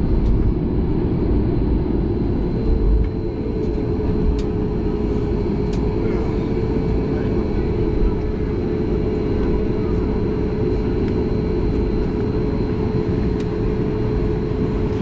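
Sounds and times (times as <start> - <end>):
airplane cabin rumble: 0.0 - 15.0
constant hum: 0.0 - 15.0.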